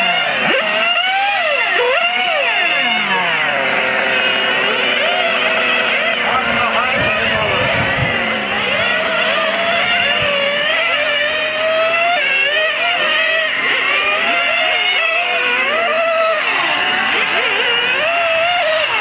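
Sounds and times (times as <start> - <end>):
model race car motors whining: 0.0 - 19.0.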